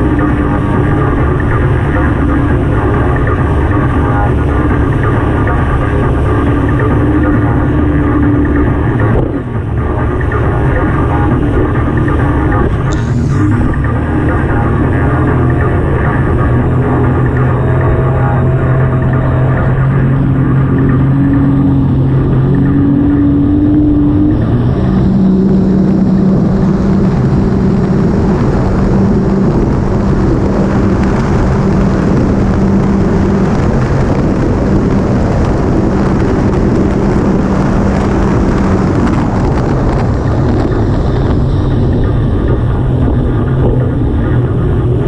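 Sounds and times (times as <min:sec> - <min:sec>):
small boat engine running: 0:00.0 - 0:45.0
wind rushing: 0:00.0 - 0:45.0.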